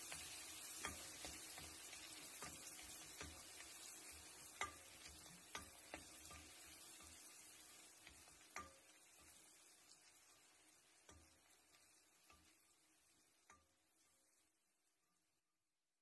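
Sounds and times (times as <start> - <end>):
garlic sizzling in butter: 0.0 - 15.4.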